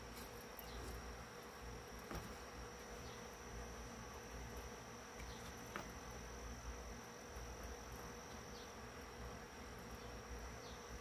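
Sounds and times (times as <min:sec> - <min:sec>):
faint high-pitched insect drone: 0:00.0 - 0:11.0.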